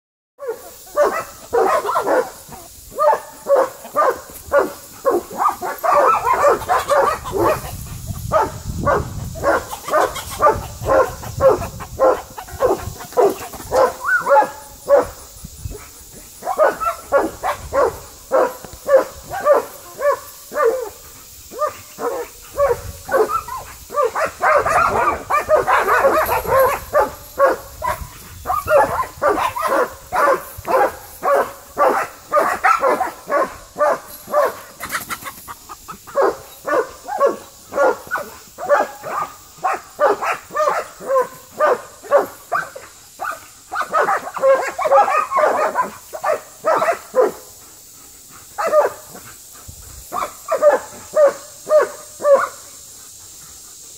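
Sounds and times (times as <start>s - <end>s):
puppy barking: 0.4s - 2.4s, 3.0s - 15.1s, 16.4s - 20.9s, 21.5s - 34.6s, 36.2s - 47.4s, 48.6s - 49.0s, 50.2s - 52.6s.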